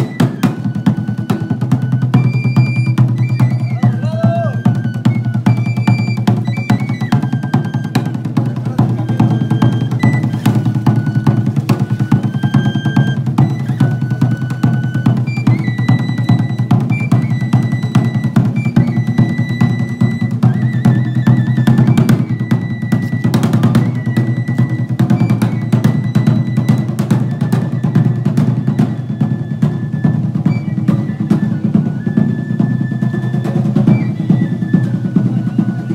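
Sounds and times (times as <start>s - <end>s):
high whistle-like notes: 0.0s - 8.2s, 9.0s - 35.9s
hand drums beaten with sticks: 0.0s - 35.9s.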